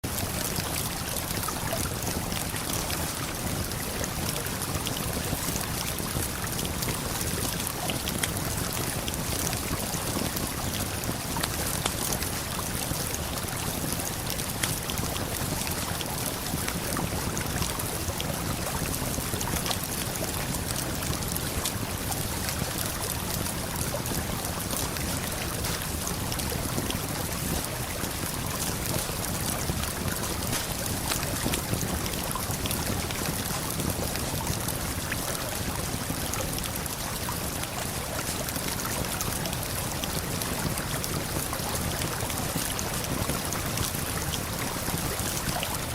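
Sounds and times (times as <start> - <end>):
waterfall and flowing river: 0.0 - 45.9
campfire crackling and popping: 3.2 - 42.0.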